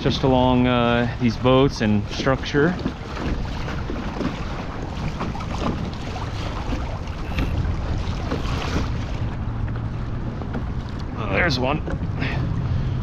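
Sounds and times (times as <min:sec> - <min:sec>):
water lapping against hull: 0:00.0 - 0:13.0
wind buffeting microphone: 0:00.0 - 0:13.0.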